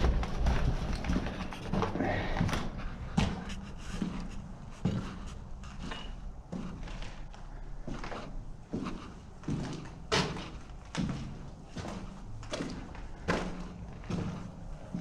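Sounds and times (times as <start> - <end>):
echoing footsteps: 0.0 - 15.0.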